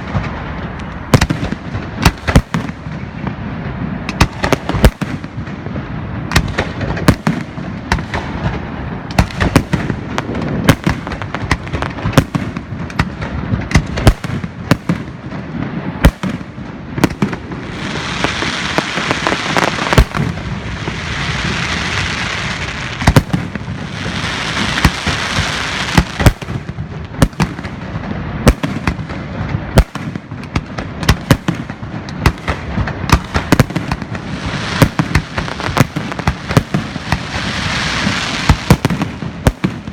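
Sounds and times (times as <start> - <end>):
dense fireworks hiss: 0.0 - 39.9
fireworks bursts and bangs: 0.0 - 39.9.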